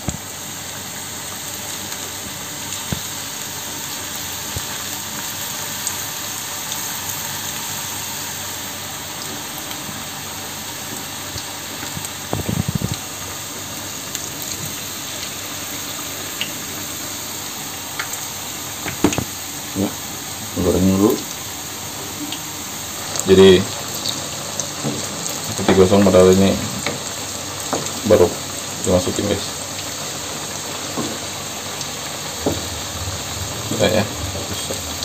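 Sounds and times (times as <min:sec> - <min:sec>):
batter sizzling in hot oil: 0:00.0 - 0:35.0.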